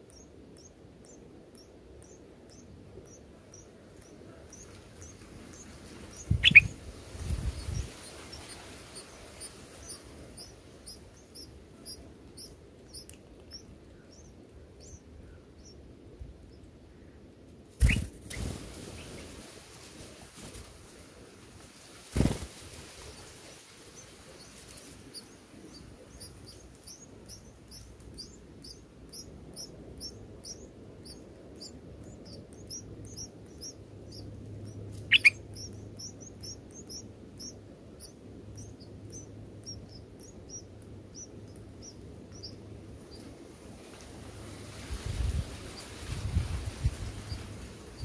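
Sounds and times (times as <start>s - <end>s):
nestlings begging chirps: 0.0s - 15.8s, 17.8s - 19.3s, 22.2s - 43.3s.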